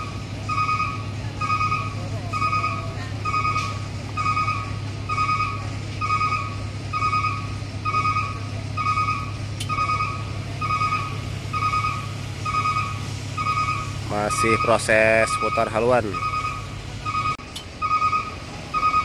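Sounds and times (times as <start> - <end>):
electronic warning beeper: 0.0 - 19.0
low engine hum: 0.0 - 19.0.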